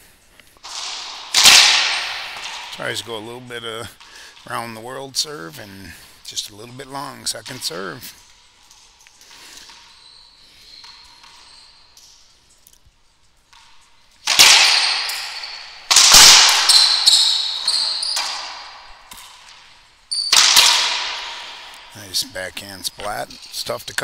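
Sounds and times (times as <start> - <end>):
racquetball hits: 0.6 - 4.5, 5.7 - 12.4, 13.5 - 24.0.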